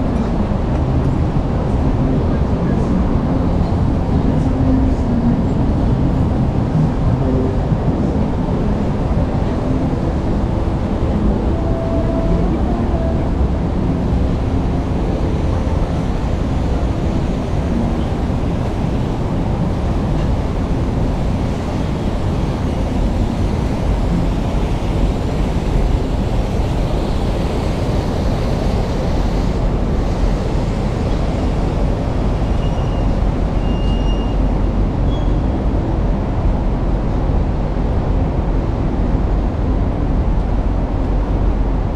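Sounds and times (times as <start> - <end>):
low rumble of city traffic: 0.0 - 41.9.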